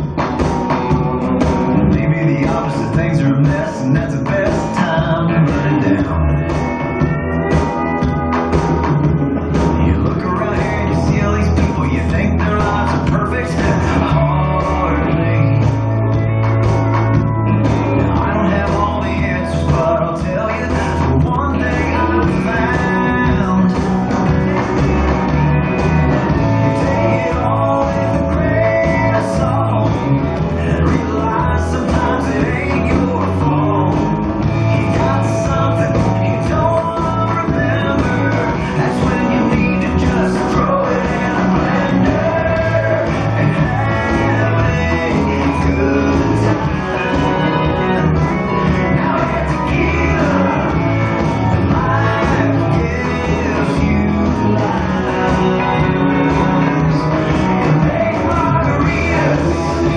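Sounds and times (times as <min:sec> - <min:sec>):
rock and roll song: 0:00.0 - 0:59.9.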